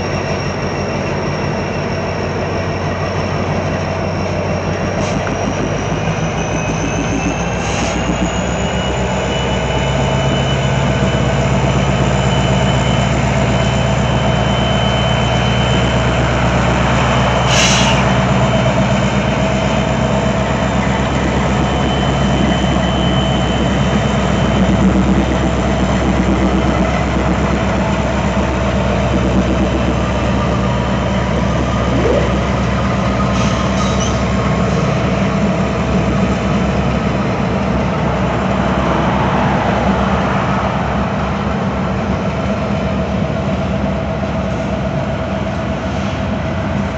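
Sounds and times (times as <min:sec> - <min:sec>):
diesel locomotive engine drone: 0:00.0 - 0:46.9.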